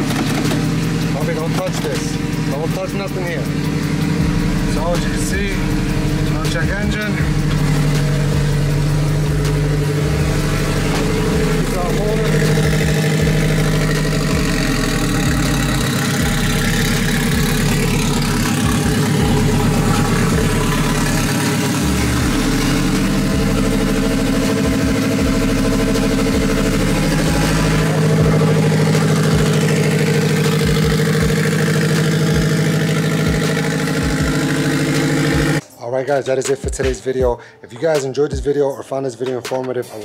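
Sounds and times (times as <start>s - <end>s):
car engine idling: 0.0s - 35.6s.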